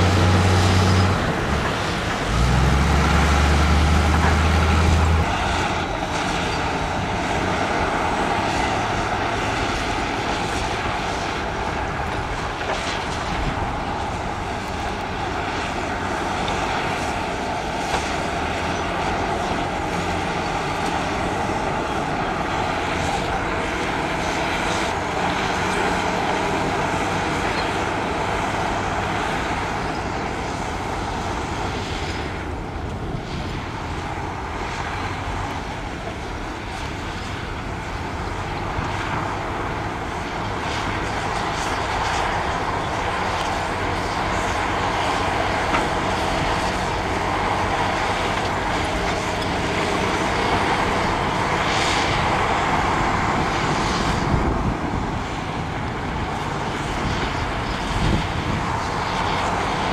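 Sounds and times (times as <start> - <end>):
diesel machinery engine drone: 0.0 - 59.9.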